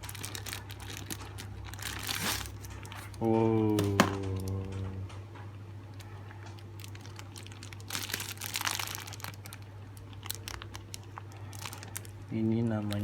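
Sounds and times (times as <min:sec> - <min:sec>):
plastic packaging crinkling: 0:00.0 - 0:04.8, 0:06.0 - 0:13.0
low steady hum: 0:00.0 - 0:13.0.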